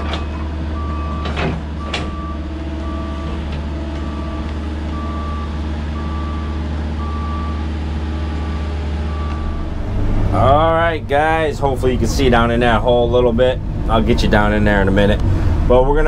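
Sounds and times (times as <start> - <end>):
excavator travel alarm beeping: 0.0 - 13.2
diesel engine drone: 0.0 - 16.0.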